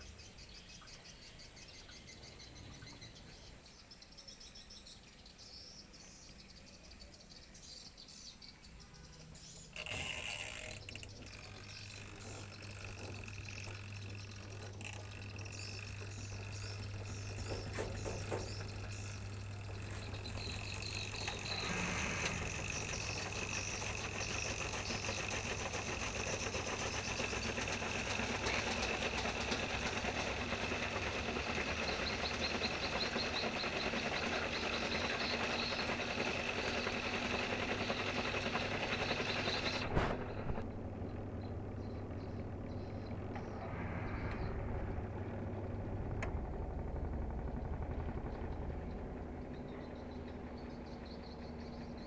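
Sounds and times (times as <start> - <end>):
low electric hum: 4.8 - 52.0
washing machine motor whining: 9.2 - 52.0.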